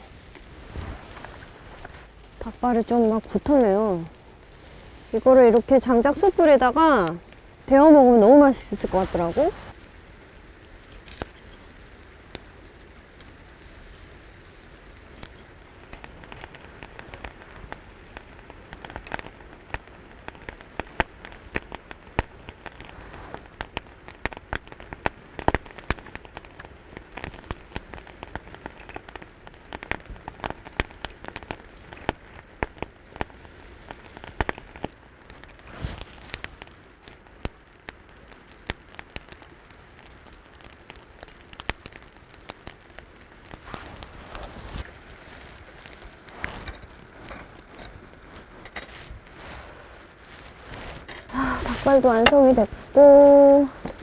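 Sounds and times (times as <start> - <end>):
meat sizzling over a fire: 0.0 - 54.0.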